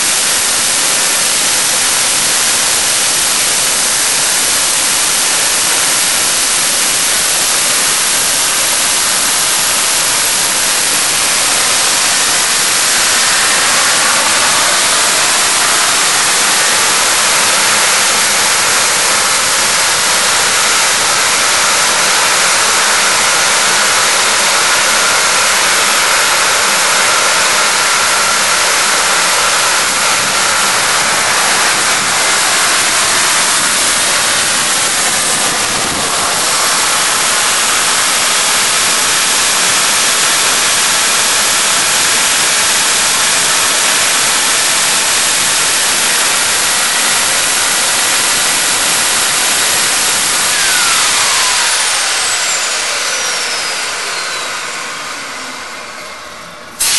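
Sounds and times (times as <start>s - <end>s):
turbine whine: 0.0s - 56.9s
turbojet hissing roar: 0.0s - 56.9s.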